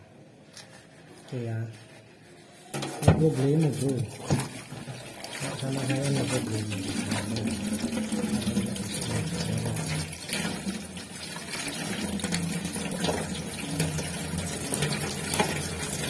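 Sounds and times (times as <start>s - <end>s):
tap water running and splashing: 2.7s - 16.0s.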